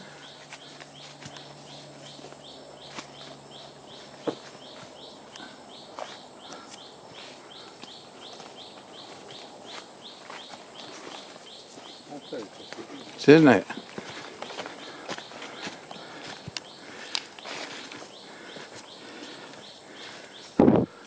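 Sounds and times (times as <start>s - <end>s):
footsteps on a trail: 0.0s - 21.0s.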